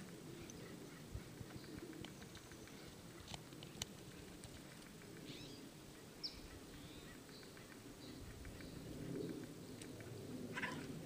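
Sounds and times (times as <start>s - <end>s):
faint bird calls: 0.2s - 11.0s.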